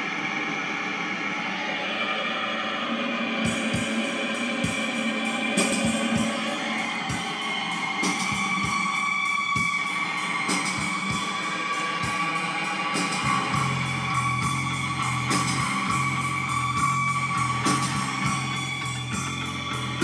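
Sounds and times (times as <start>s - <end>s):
guitar music with drum beat: 3.5s - 20.0s.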